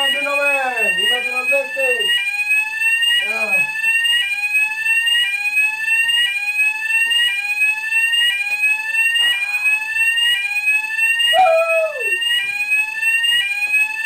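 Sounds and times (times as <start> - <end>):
fire alarm wailing: 0.0 - 14.0.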